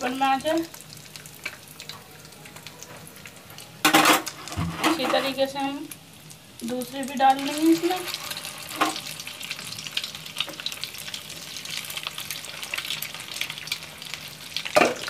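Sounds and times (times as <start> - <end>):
chops sizzling in hot oil: 0.0 - 15.0.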